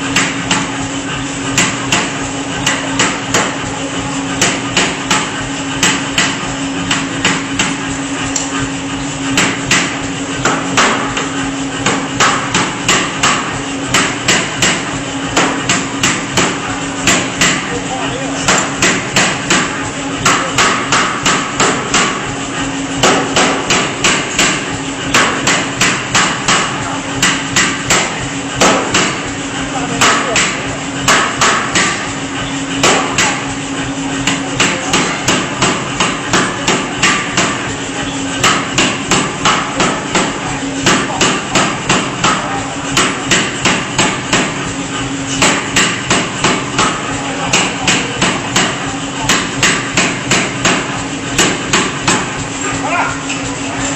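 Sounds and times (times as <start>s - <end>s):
steady hum: 0.0s - 53.9s
forging hammer striking: 1.5s - 3.6s, 4.4s - 7.8s, 9.3s - 17.7s, 18.4s - 22.3s, 23.0s - 29.3s, 30.0s - 32.1s, 32.8s - 33.5s, 34.2s - 37.7s, 38.4s - 44.6s, 45.3s - 52.4s.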